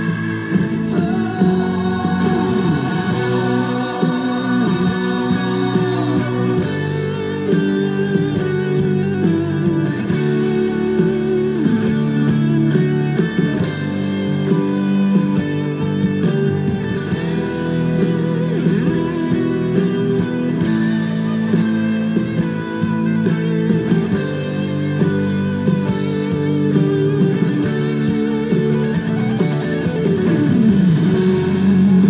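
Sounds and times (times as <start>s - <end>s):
guitar music with sliding notes: 0.0s - 32.0s.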